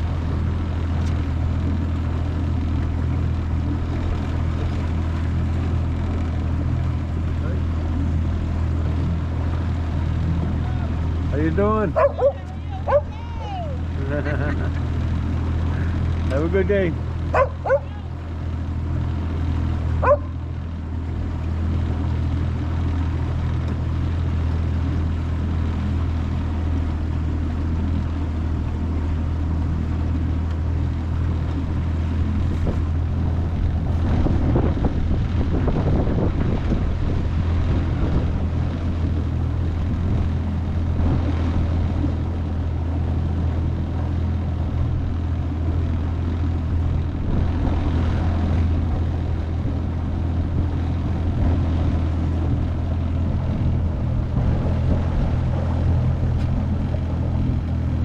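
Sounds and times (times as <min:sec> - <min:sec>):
outboard motor drone: 0:00.0 - 0:58.0.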